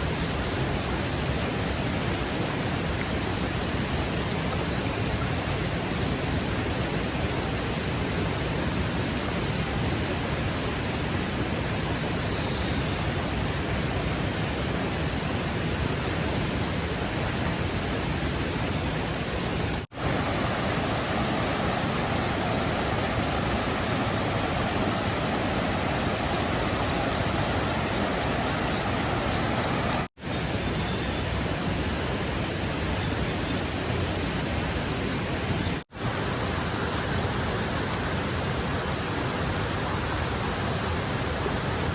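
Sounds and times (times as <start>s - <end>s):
rushing stream water: 0.0s - 41.9s.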